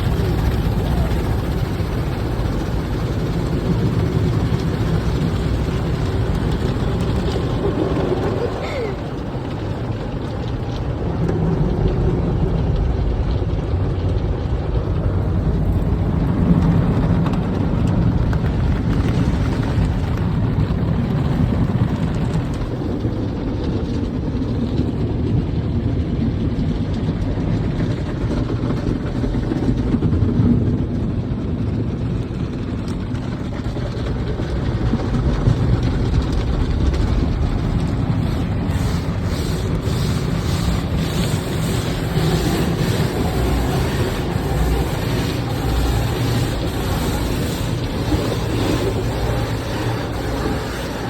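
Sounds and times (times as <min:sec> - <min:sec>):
car wash rumble: 0:00.0 - 0:51.0.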